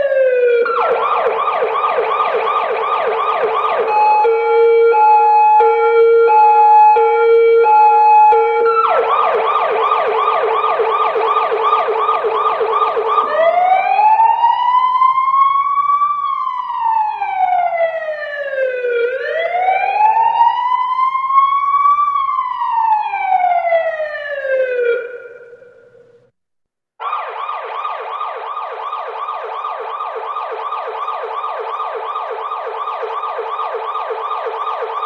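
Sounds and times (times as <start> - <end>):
police siren yelping and wailing: 0.0 - 25.7, 27.0 - 35.0.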